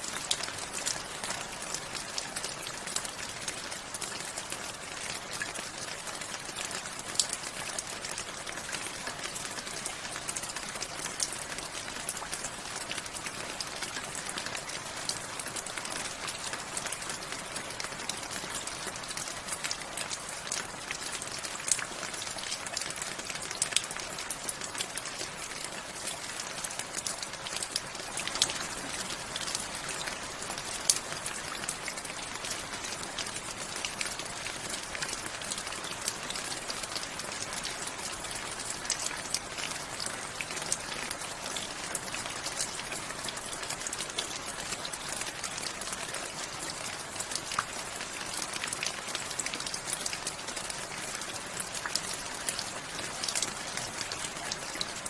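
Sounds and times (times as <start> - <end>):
raindrops ticking on hard surface: 0.0 - 55.0.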